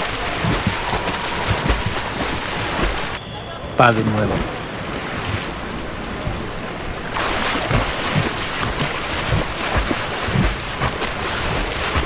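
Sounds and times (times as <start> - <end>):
swimmer splashing water: 0.0 - 12.0.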